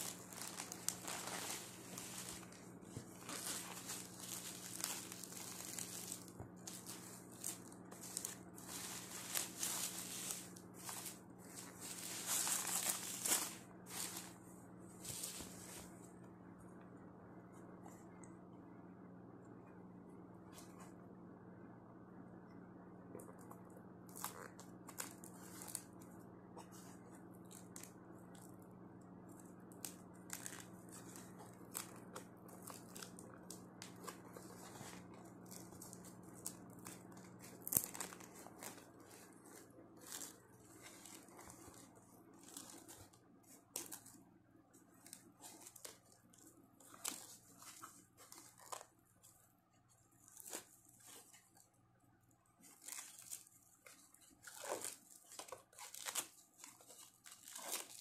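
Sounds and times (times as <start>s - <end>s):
plastic wrap crinkling: 0.0s - 16.2s, 23.2s - 28.6s, 29.2s - 51.8s, 52.4s - 58.0s.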